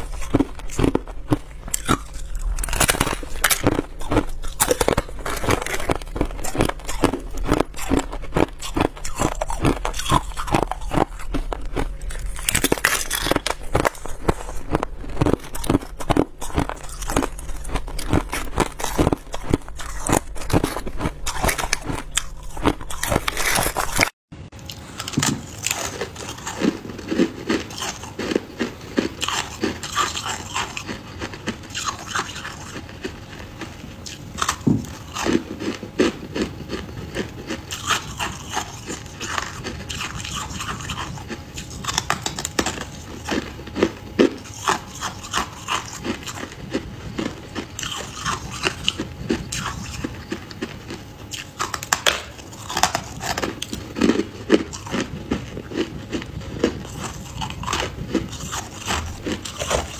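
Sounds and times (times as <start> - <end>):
freezer frost being bitten: 0.0 - 59.9
ice being chewed: 0.0 - 59.9.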